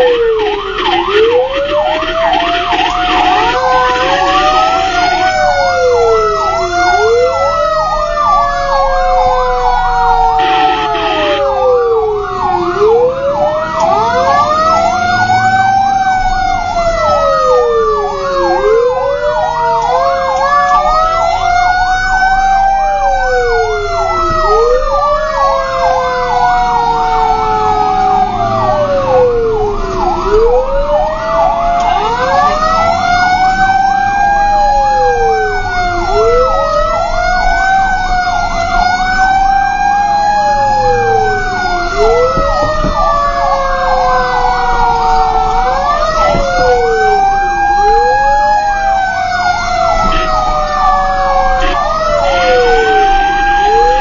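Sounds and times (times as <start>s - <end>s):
fire truck sirens wailing: 0.0s - 54.0s
gliding siren tones: 0.0s - 54.0s
rapid siren yelp: 0.0s - 54.0s.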